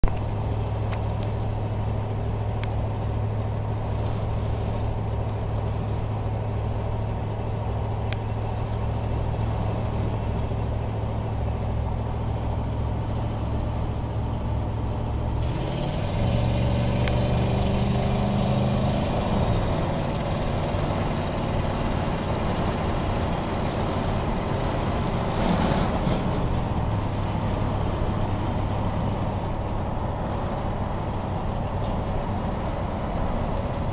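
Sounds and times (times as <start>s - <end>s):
truck engine idling and revving: 0.0s - 33.9s.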